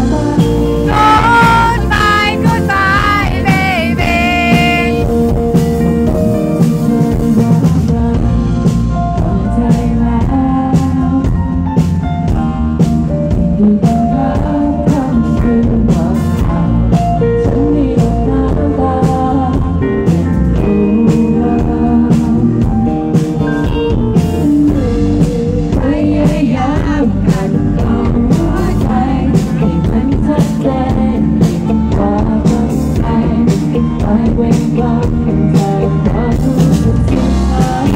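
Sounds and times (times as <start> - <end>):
woman singing: 0.0 - 5.4, 6.0 - 12.4, 13.3 - 23.0, 24.6 - 37.9
drums: 0.0 - 37.9
electric bass: 0.0 - 37.9.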